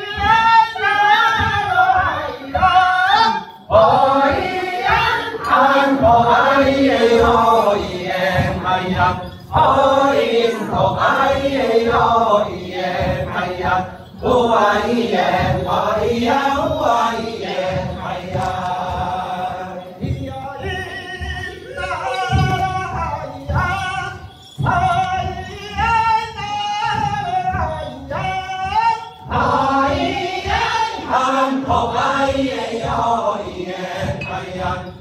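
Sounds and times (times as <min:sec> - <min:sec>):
mixed choir singing unaccompanied: 0:00.0 - 0:35.0.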